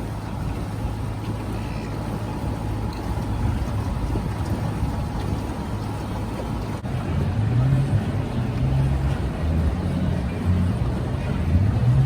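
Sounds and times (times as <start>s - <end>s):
motorboat engine humming: 0.0s - 12.0s
rushing water: 0.0s - 12.0s.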